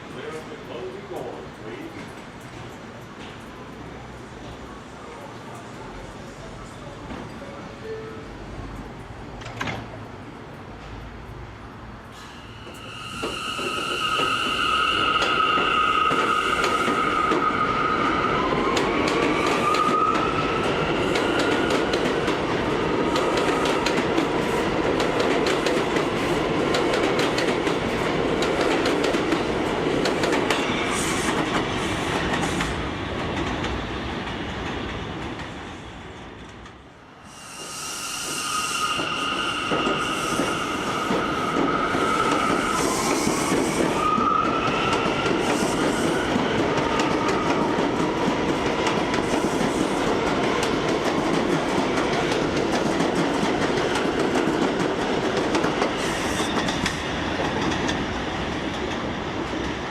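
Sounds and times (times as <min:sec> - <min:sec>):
subway train electric whine: 0:00.0 - 0:59.9.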